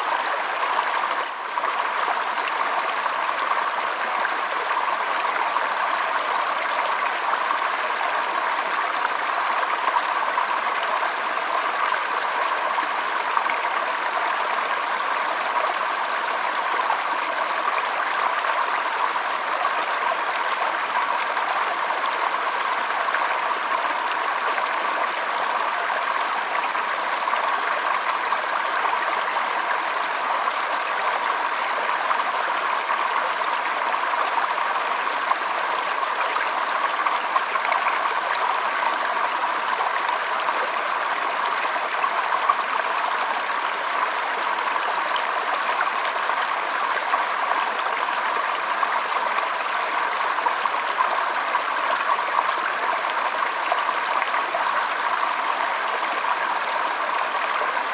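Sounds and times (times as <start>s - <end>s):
stream water flowing and splashing: 0.0s - 57.9s.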